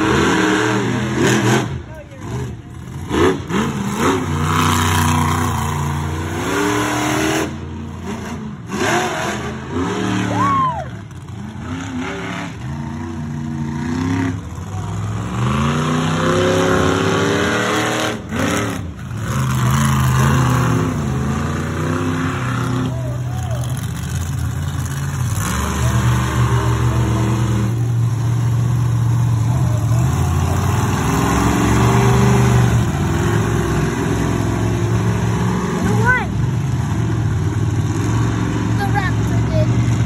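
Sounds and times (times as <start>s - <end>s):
monster truck engines revving: 0.0s - 40.0s.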